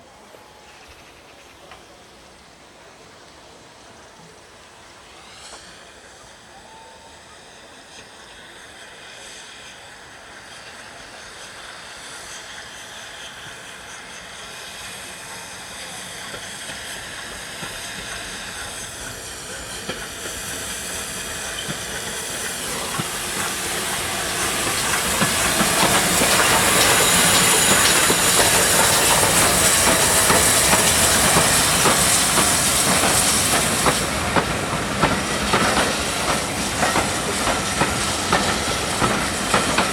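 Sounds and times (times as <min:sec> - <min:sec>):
steam train passing: 0:00.0 - 0:39.9
steam hissing: 0:04.5 - 0:39.9.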